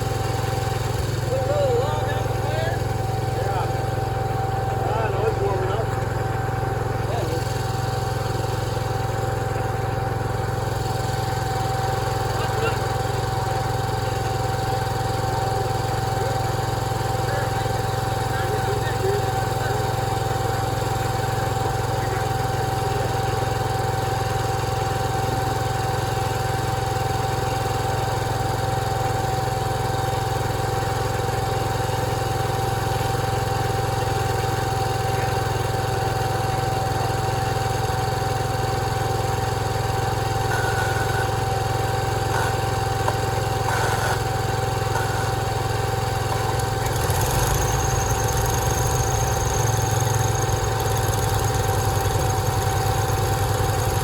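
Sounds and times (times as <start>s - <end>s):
sawmill machinery rumble: 0.0s - 54.0s
steady machine whine: 0.0s - 54.0s.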